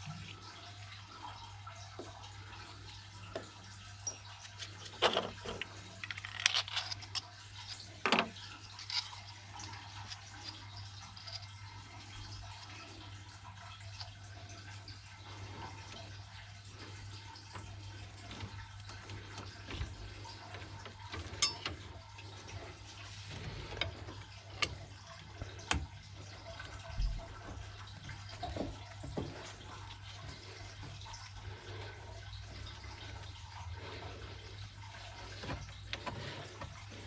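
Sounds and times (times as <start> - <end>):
low steady hum: 0.0 - 37.0
water running and splashing: 0.0 - 37.0.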